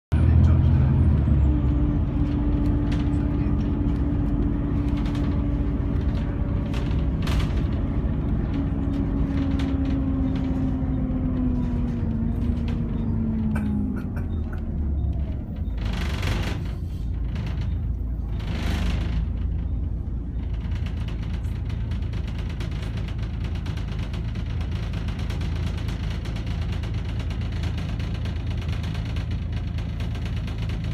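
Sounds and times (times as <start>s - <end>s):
bus drivetrain rumble and whine: 0.1s - 30.9s.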